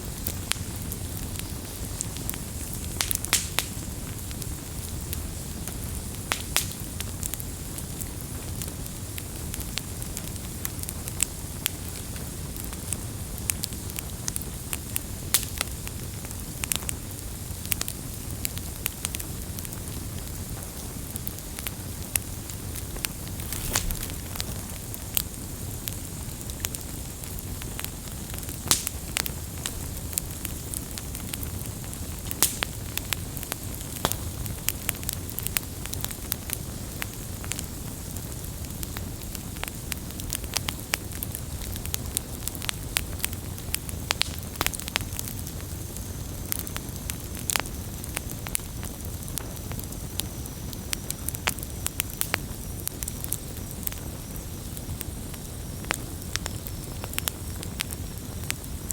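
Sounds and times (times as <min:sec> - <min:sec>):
burning wood popping and crackling: 0:00.0 - 0:58.9
wood fire rumbling and hissing: 0:00.0 - 0:58.9.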